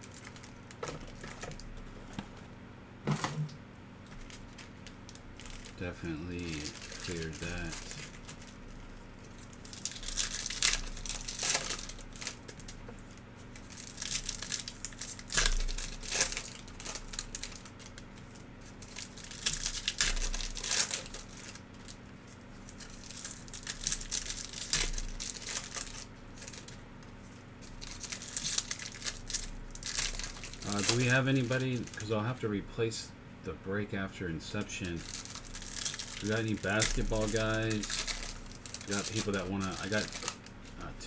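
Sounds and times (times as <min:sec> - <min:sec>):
foil wrapper crinkling and tearing: 0:00.0 - 0:02.2, 0:04.1 - 0:32.3, 0:34.6 - 0:40.8.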